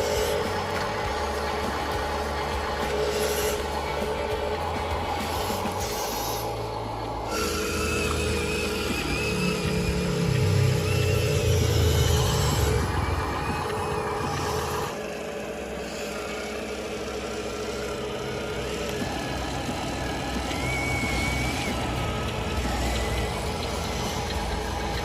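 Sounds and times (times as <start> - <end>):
small electric motors whining: 0.0 - 25.0
thin wavering whine: 0.0 - 25.0
toy vehicle engine-like drone: 0.0 - 25.0.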